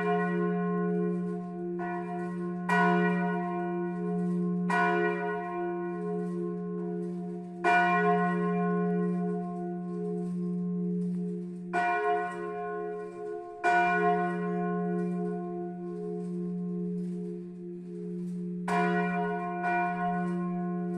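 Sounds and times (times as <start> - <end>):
church bells ringing: 0.0 - 20.9.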